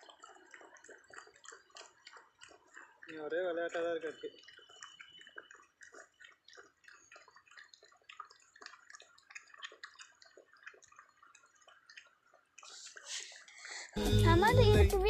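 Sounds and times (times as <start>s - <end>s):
puppy eating wet clicks: 0.0s - 13.7s.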